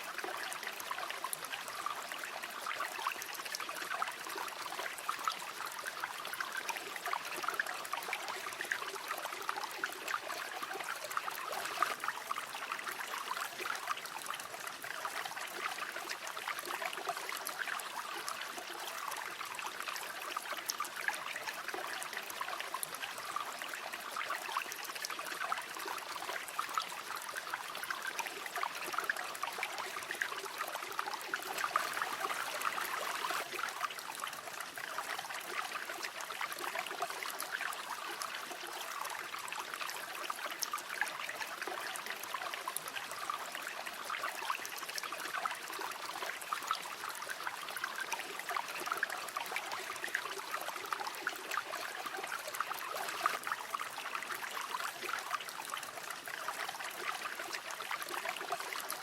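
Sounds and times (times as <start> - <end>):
water babbling over stones: 0.0 - 59.0.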